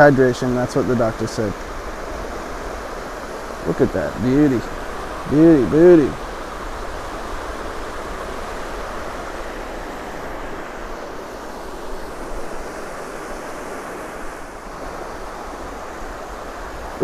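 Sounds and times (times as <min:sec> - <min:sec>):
surf breaking on beach: 0:00.0 - 0:17.0
wind on microphone: 0:00.8 - 0:17.0.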